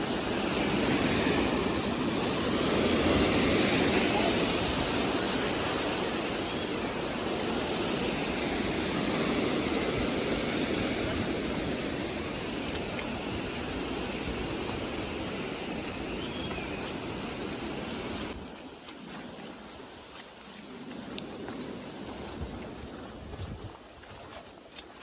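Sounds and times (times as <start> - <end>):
water flowing: 0.0 - 25.0.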